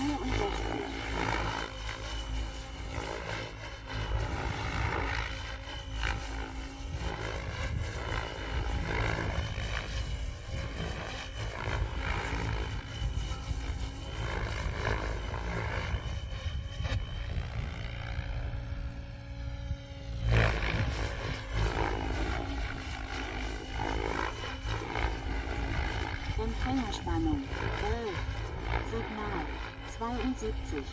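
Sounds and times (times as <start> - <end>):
model helicopter rotor and motor whine: 0.0 - 30.9.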